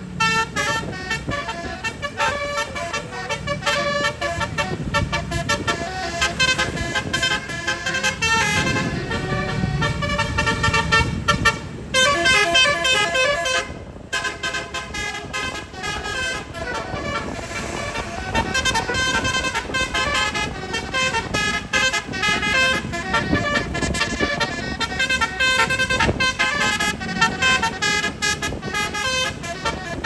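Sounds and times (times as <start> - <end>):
bus air horn playing a tune: 0.0 - 30.0.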